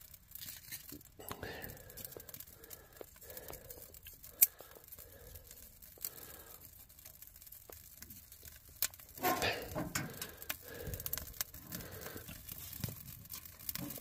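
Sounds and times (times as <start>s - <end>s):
kindling crackling and popping: 0.0s - 14.0s
twigs rustling and snapping: 0.0s - 14.0s.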